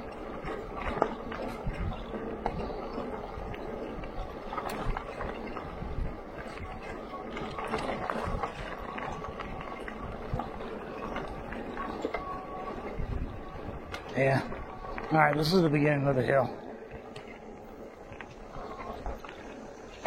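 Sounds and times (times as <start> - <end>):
tyres rolling on gravel: 0.0 - 20.0.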